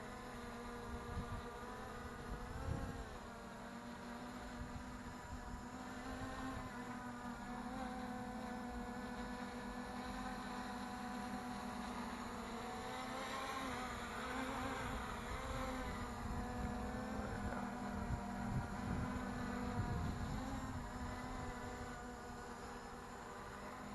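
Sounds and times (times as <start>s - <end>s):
quadcopter propellers buzzing: 0.0s - 23.9s.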